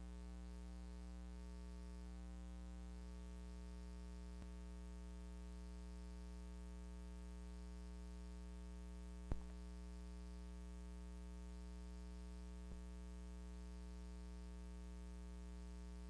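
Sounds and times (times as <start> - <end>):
low electrical hum with buzz: 0.0 - 16.0.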